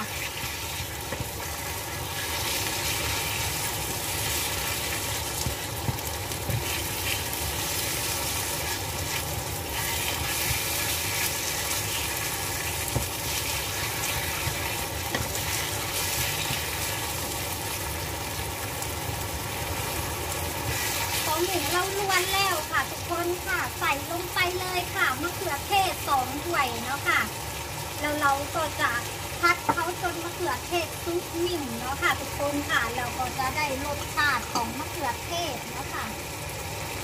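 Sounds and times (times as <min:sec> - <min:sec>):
food sizzling in a pan: 0:00.0 - 0:37.0.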